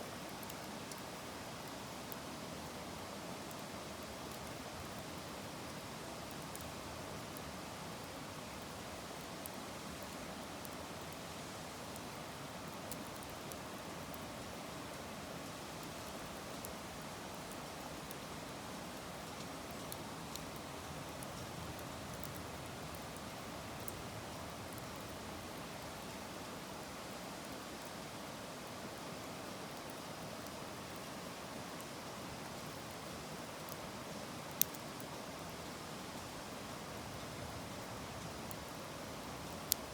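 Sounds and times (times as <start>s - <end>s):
wood fire hissing and crackling: 0.0s - 39.9s.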